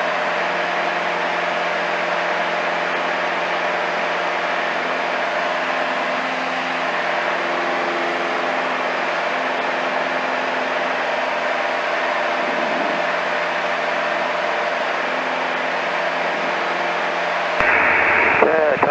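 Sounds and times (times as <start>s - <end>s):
light aircraft engine drone: 0.0s - 18.9s.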